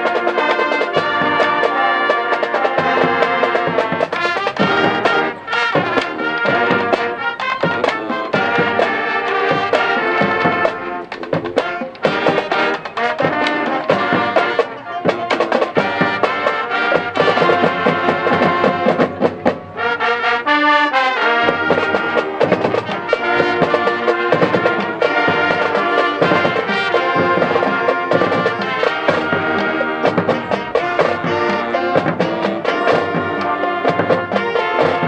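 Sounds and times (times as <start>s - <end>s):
marching band playing: 0.0s - 35.0s.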